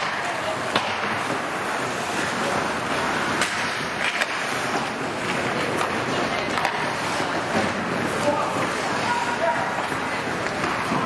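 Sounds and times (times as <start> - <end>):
sticks and puck clacking: 0.0 - 11.0.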